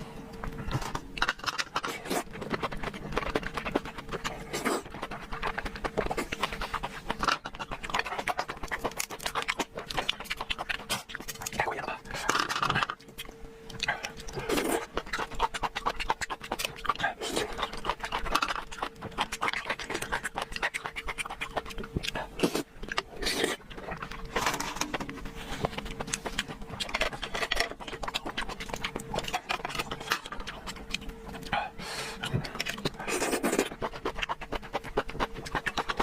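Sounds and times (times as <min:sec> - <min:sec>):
faint steady hum: 0:00.0 - 0:36.0
mouth chewing wetly: 0:01.6 - 0:24.2, 0:25.8 - 0:36.0.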